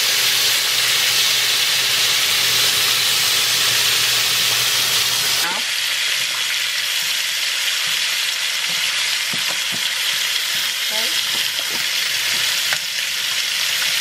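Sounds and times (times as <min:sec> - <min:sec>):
food sizzling in pans: 0:00.0 - 0:14.0.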